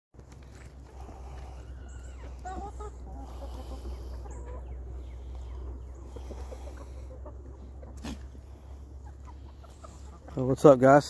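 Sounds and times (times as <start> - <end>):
chickens clucking: 0.2 - 11.0.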